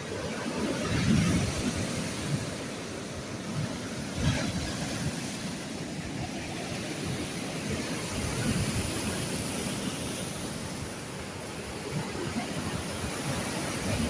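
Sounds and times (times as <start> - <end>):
sea waves washing on shore: 0.0 - 14.0
wind rumble on microphone: 0.0 - 14.0.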